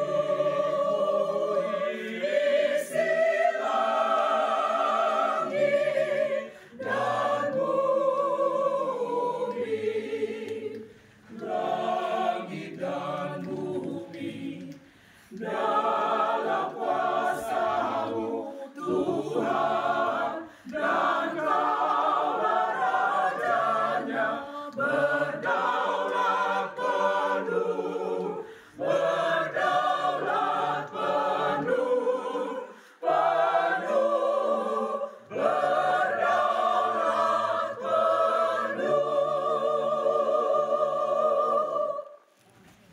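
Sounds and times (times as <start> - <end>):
choir singing a hymn: 0.0 - 42.3.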